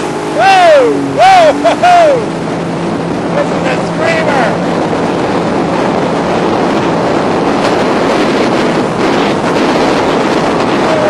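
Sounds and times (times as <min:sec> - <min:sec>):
rushing water: 0:00.0 - 0:11.0
watercraft engine running: 0:00.0 - 0:11.0
wind on microphone: 0:00.0 - 0:11.0.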